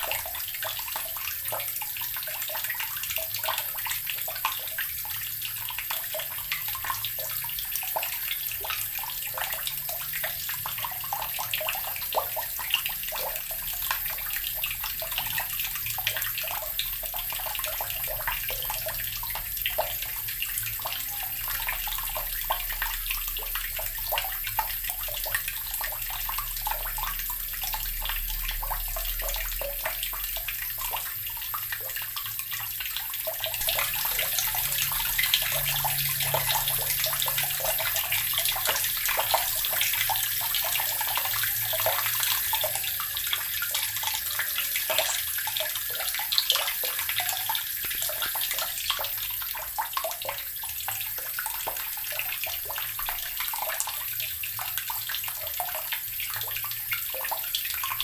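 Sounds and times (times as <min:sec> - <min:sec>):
water running from a tap: 0:00.0 - 0:58.0.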